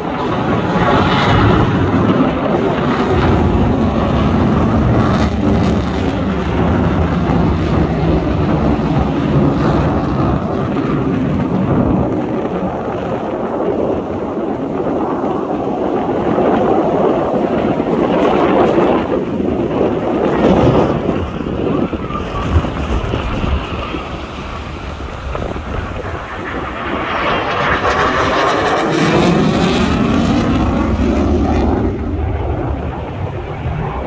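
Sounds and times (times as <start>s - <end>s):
jet engines passing overhead: 0.0s - 34.0s.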